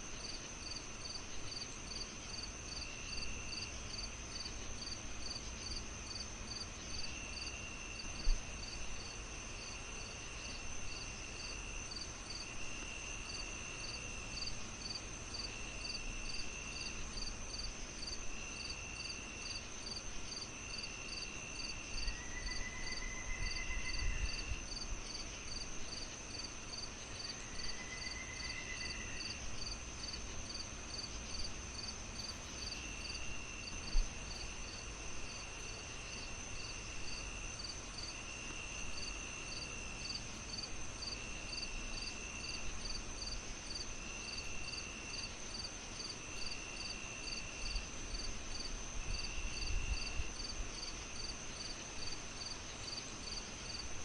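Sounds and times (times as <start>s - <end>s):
crickets chirping: 0.0s - 54.0s
high insect trill: 10.4s - 53.9s.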